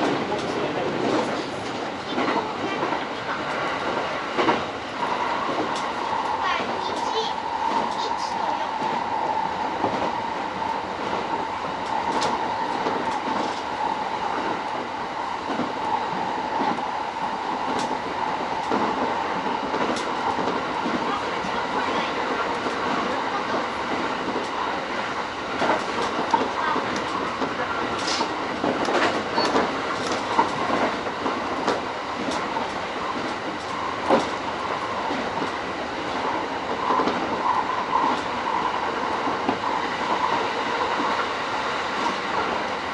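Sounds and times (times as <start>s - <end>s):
sharp track clicks: 0.0s - 9.2s, 9.8s - 41.3s
train wheels on rail: 0.0s - 42.9s.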